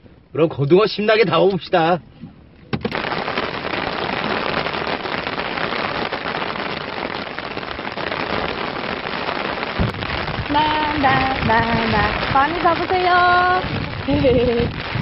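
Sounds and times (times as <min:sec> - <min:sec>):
heavy rain pouring: 0:02.8 - 0:15.0.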